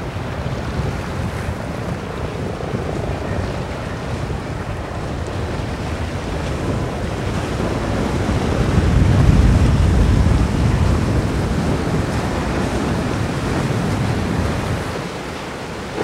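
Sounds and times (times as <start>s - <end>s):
surf and wake water rushing: 0.0s - 16.0s
wind buffeting microphone: 0.0s - 16.0s.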